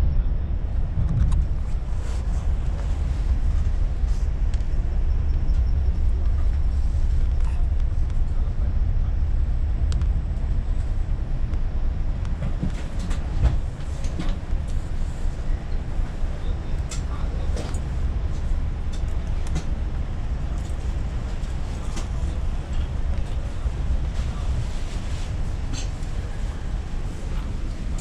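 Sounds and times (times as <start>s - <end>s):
train rumble inside carriage: 0.0s - 28.0s.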